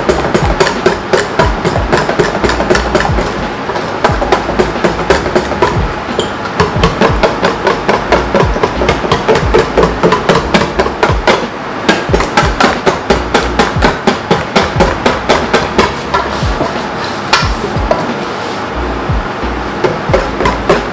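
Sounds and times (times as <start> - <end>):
utensil beating mixture in bowl: 0.0 - 17.0.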